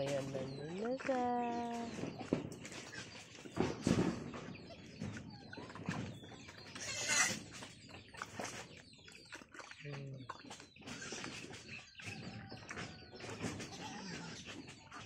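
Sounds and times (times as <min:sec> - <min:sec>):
animals pecking and chewing: 0:00.0 - 0:15.0
chickens clucking: 0:00.0 - 0:15.0.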